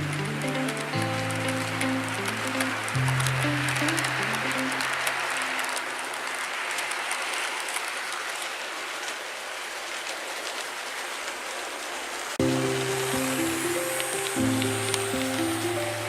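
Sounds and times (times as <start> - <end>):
fine quick clicks of train: 0.0 - 16.0
model train wheels hissing on rail: 0.0 - 16.0.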